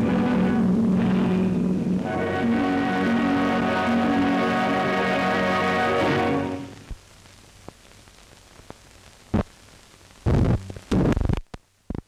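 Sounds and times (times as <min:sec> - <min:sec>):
loud crackling bursts: 0:00.0 - 0:12.0
low steady hiss: 0:00.0 - 0:12.0.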